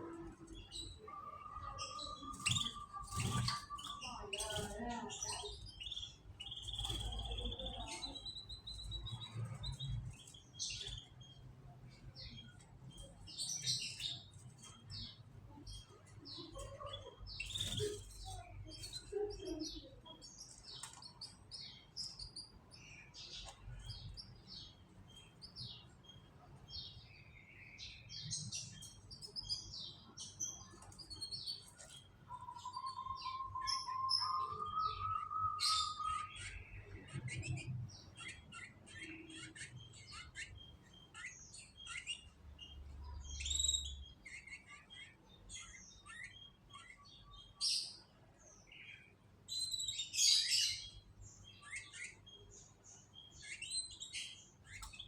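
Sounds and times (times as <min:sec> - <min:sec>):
canaries chirping: 0:00.0 - 0:55.0.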